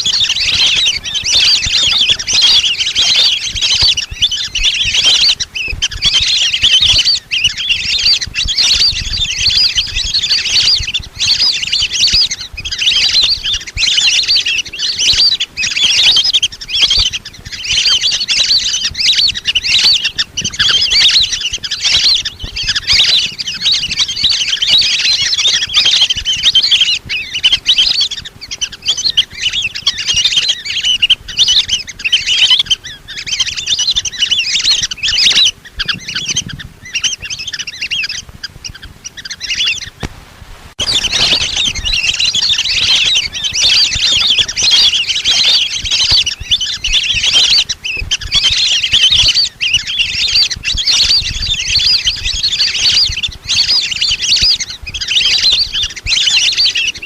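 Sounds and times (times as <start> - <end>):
ducks whistling: 0.0 - 40.1, 40.8 - 57.0.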